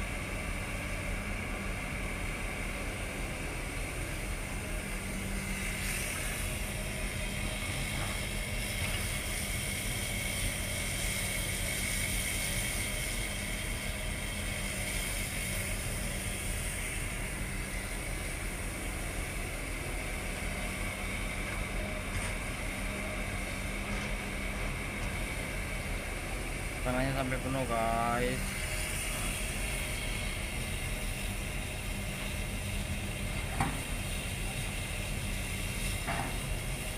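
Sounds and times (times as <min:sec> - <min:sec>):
constant low hum: 0:00.0 - 0:36.9
diesel engines running: 0:00.0 - 0:36.9.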